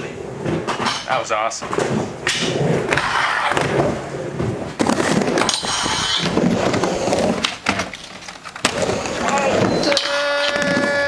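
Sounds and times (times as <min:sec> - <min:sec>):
skateboard wheels rolling on ramp: 0:00.1 - 0:11.0.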